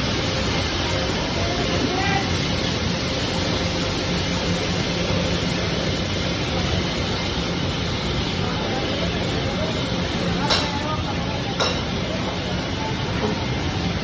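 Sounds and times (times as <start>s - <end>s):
pellet burner roaring: 0.0s - 14.0s.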